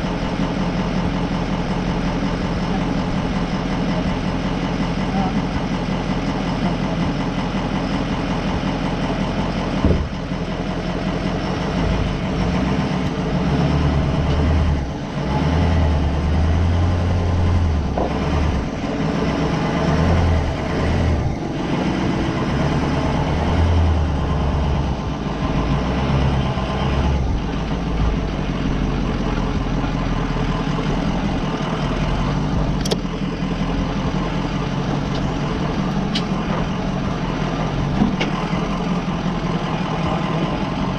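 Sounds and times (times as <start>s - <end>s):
van engine rumbling: 0.0s - 40.9s.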